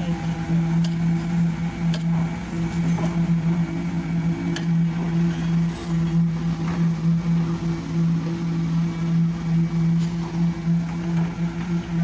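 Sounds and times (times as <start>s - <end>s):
diesel paving machinery drone: 0.0s - 12.0s.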